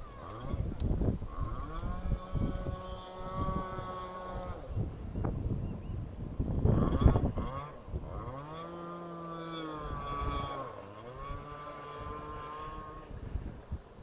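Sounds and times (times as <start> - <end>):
toy speedboat motor running: 0.0 - 14.0.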